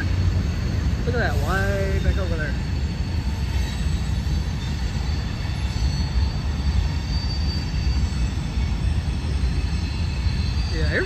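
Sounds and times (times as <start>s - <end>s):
high wheel squeal: 0.0s - 11.0s
train rumbling: 0.0s - 11.0s.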